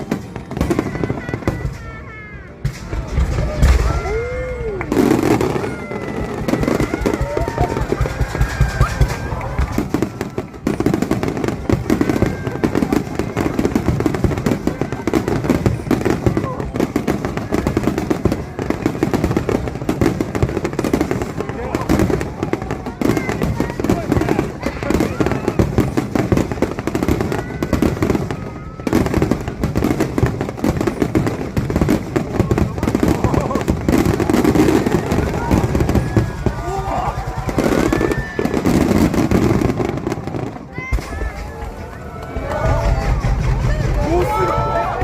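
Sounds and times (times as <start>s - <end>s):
fireworks popping and crackling: 0.0s - 45.0s.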